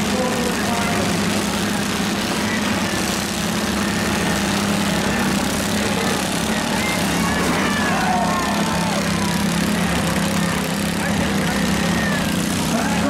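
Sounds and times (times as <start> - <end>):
lawn mower engines running: 0.0 - 13.0.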